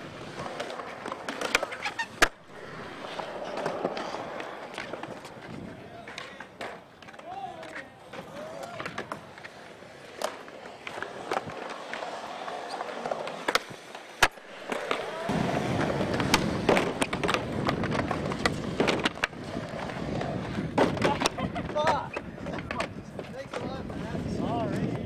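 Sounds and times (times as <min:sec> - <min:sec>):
skateboard wheels rolling on concrete: 0:00.0 - 0:25.0
skateboards clacking on ground: 0:00.0 - 0:25.0.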